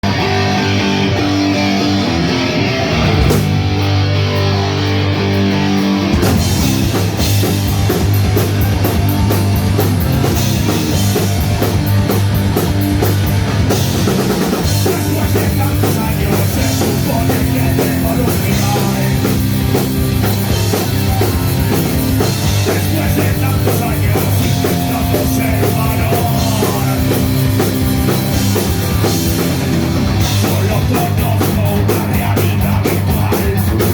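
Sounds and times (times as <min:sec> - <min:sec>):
drums: 0:00.0 - 0:33.9
electric guitar: 0:00.0 - 0:33.9
punk rock band playing live: 0:00.0 - 0:33.9.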